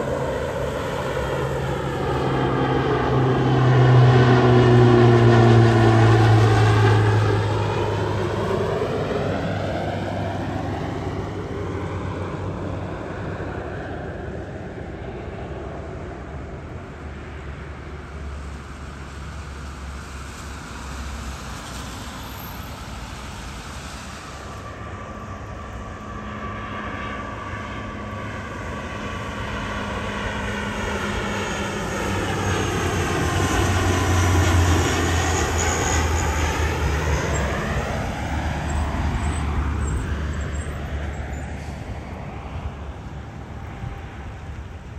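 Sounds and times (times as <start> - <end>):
airliner passing by: 0.0 - 44.9
jet engine whine: 0.0 - 44.9.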